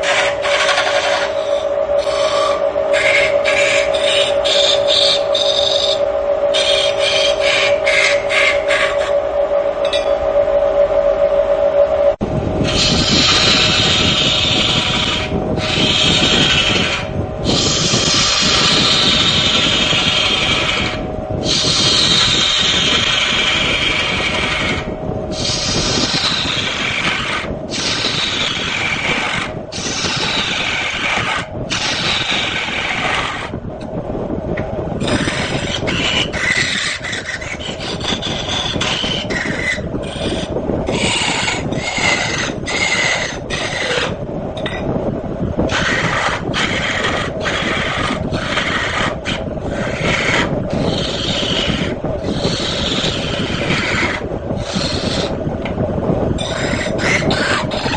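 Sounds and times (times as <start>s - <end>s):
lathe tool scraping wood: 0.0s - 9.3s, 12.6s - 33.5s, 35.0s - 44.8s, 45.7s - 55.4s, 56.4s - 57.9s.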